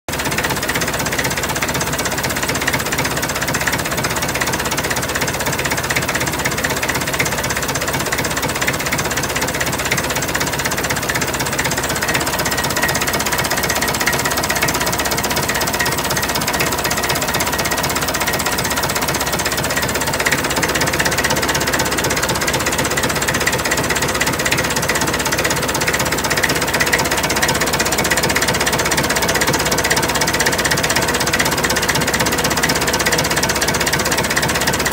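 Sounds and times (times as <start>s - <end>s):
tractor engine clattering: 0.1s - 34.9s.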